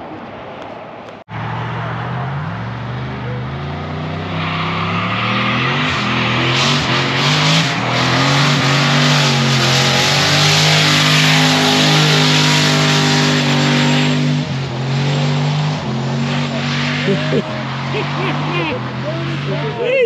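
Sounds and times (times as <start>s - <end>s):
loud car engine running: 1.3s - 20.0s.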